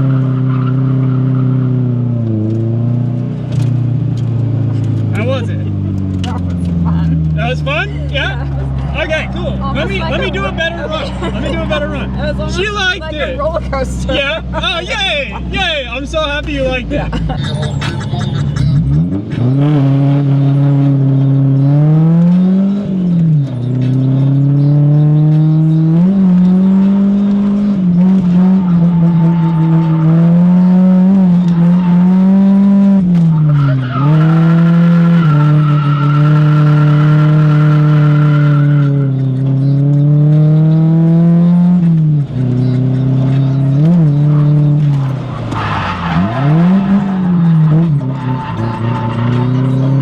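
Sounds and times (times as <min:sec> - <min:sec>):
tires squealing: 0:00.0 - 0:03.8, 0:04.5 - 0:50.0
car engine at high revs: 0:00.0 - 0:50.0.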